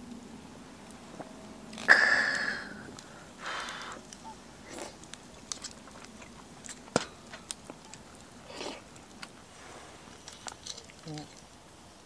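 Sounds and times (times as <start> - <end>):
chewing with crackles: 0.8 - 11.7.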